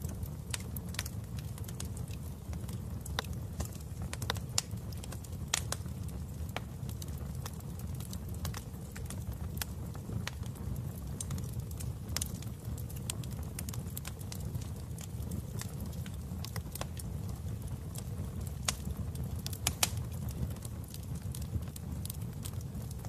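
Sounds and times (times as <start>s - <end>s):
low roar of flames: 0.0s - 23.0s
wood fire crackling and popping: 0.0s - 23.0s.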